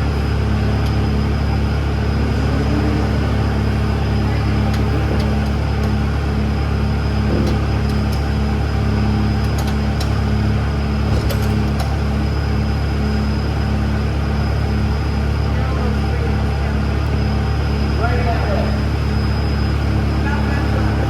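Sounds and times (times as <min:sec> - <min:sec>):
machine hum with low drone: 0:00.0 - 0:21.0.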